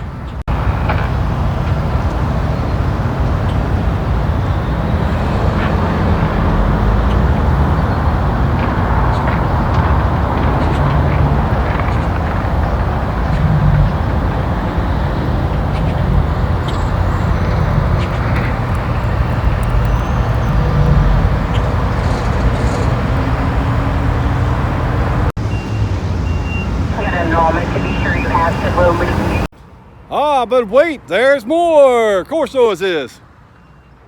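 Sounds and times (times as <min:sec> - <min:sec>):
loud vehicle rumble: 0:00.0 - 0:31.2.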